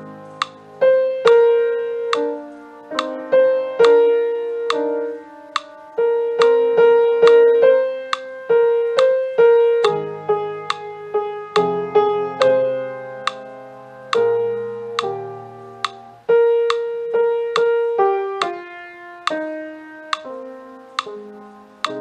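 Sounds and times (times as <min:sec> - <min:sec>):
piano playing chords: 0:00.0 - 0:22.0.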